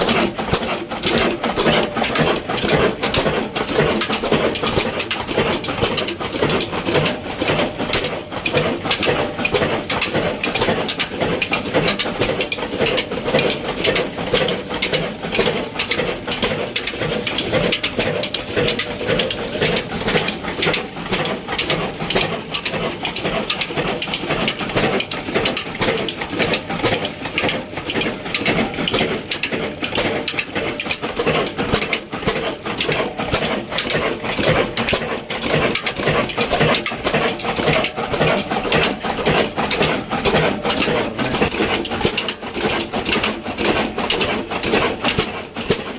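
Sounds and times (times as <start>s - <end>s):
diesel engine clattering: 0.0s - 45.9s.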